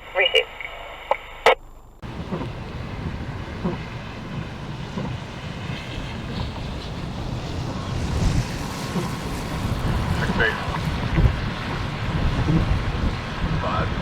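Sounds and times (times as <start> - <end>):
wind buffeting microphone: 2.0 - 14.0.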